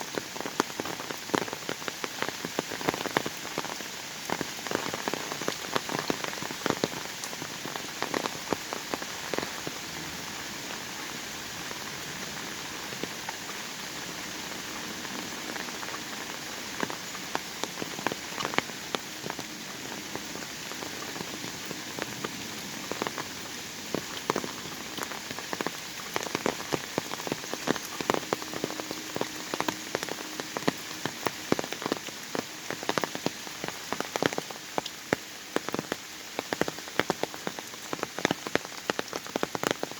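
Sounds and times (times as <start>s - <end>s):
raindrops pattering: 0.0s - 39.9s
steady rain hiss: 0.0s - 39.9s.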